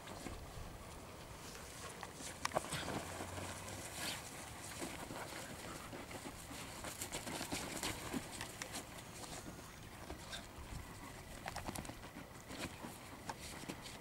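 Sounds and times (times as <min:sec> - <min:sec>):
small paws pattering: 0:00.1 - 0:14.0.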